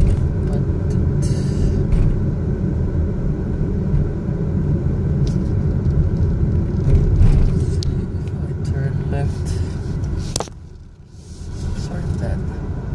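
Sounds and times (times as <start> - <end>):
car engine and road rumble: 0.0 - 12.9.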